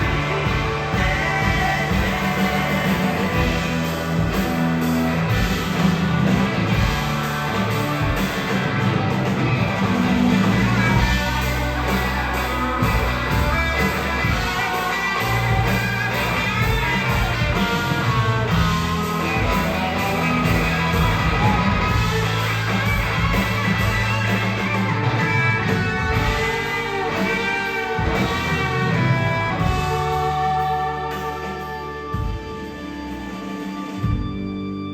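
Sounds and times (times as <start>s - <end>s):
instrumental rock music: 0.0s - 34.9s.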